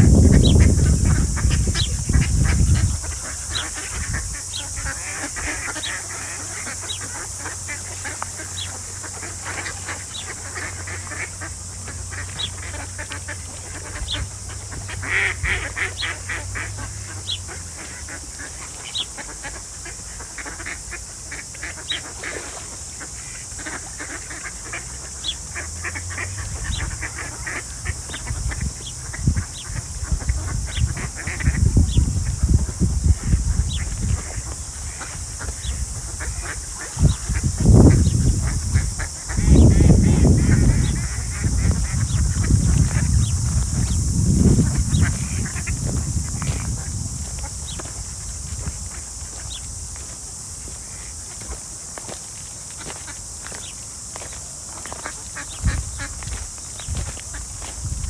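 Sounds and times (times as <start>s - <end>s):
wind rumbling on microphone: 0.0s - 17.8s, 26.3s - 52.2s, 54.2s - 58.0s
ducks quacking: 0.0s - 58.0s
high-pitched hiss: 0.0s - 58.0s.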